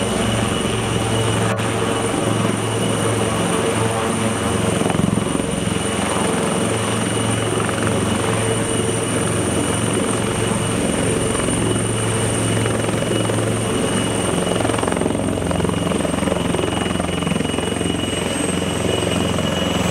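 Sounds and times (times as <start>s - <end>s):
helicopter rotor beat: 0.0s - 19.9s
high turbine whine: 0.0s - 19.9s.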